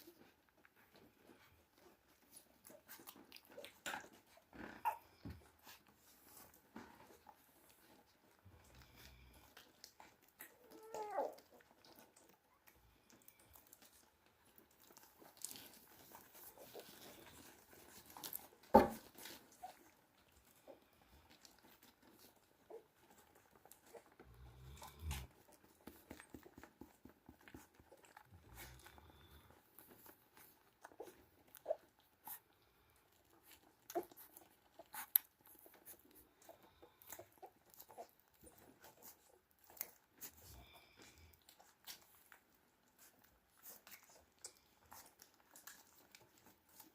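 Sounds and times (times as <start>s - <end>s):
puppy whining: 0.0s - 46.9s
soft clicks and crunching: 0.0s - 46.9s.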